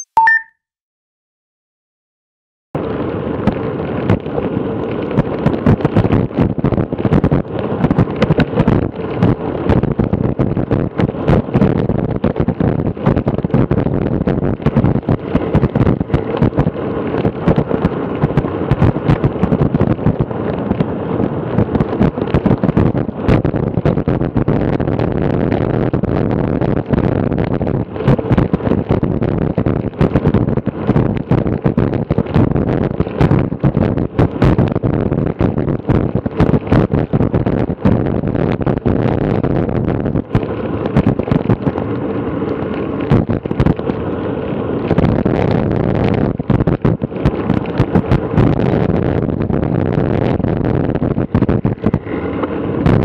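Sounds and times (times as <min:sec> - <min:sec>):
wind buffeting microphone: 0:02.8 - 0:53.0.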